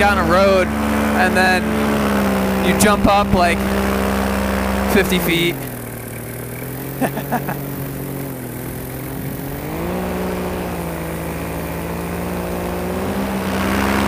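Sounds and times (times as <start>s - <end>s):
paramotor engine and propeller: 0.0s - 14.0s.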